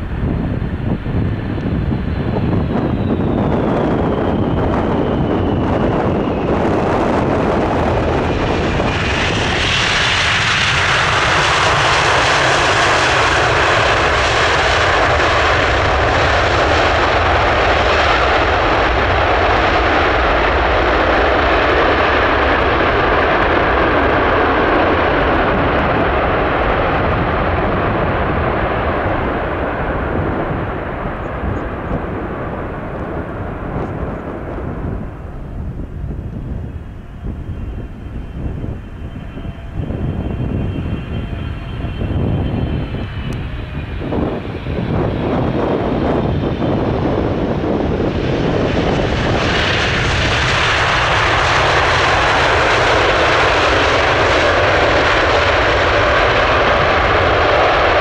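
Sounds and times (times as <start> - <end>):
jet engine falling whine: 0.0 - 58.0
jet reverse thrust roar: 0.0 - 58.0.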